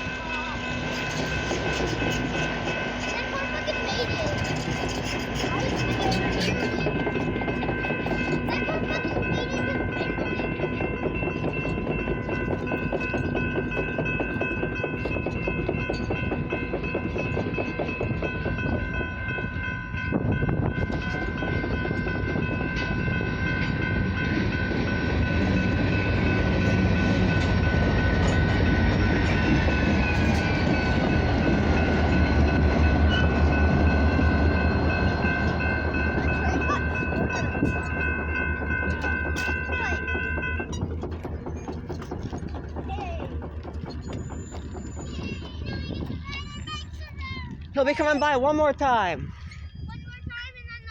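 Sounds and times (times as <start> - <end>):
diesel locomotive rumble: 0.0 - 50.9.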